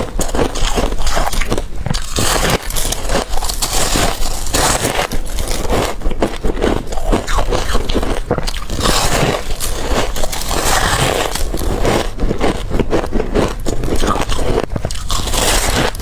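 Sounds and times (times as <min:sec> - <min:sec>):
crunching ice being bitten: 0:00.0 - 0:16.0.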